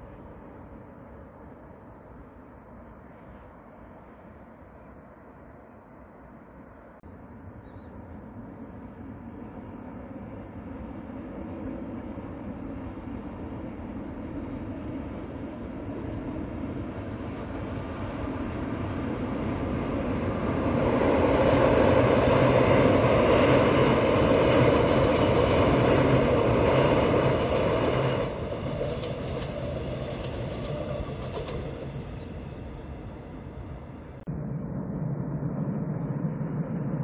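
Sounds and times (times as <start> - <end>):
passenger train rumbling past: 0.0 - 37.0.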